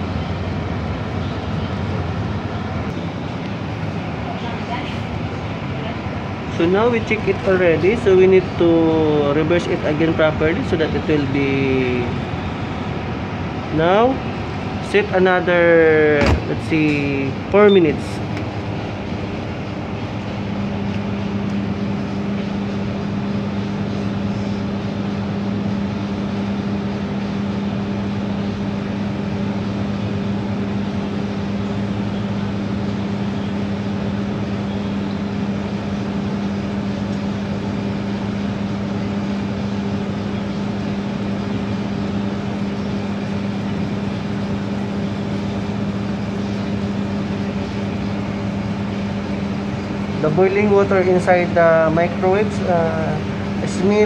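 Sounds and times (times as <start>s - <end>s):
microwave oven humming: 0.0s - 54.0s.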